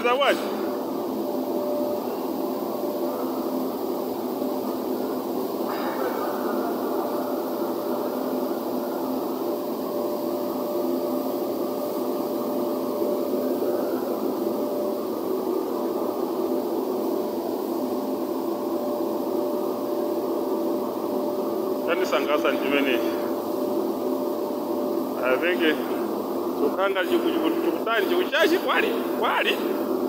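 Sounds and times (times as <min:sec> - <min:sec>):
mill machinery droning: 0:00.0 - 0:30.0.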